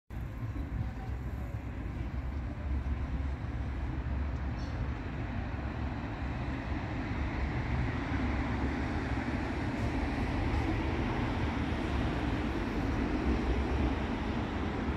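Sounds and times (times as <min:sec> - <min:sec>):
low rumble of street traffic: 0:00.1 - 0:14.9.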